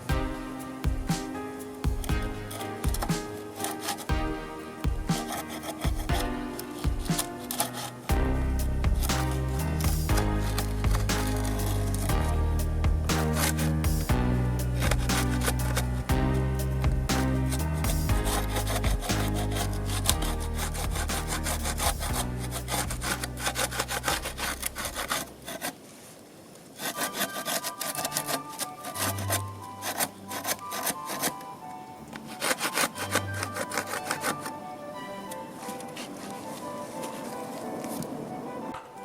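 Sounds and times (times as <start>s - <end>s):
background music: 0.0s - 25.6s, 26.8s - 39.0s.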